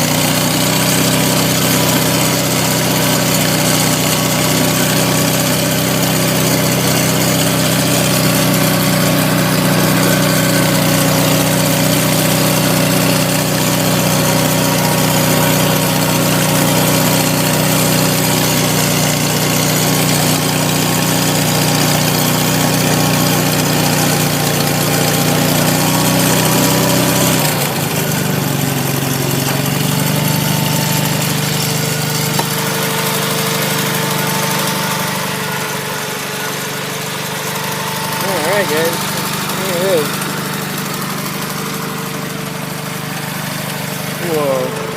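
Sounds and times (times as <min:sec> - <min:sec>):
garden tractor engine running: 0:00.0 - 0:44.9.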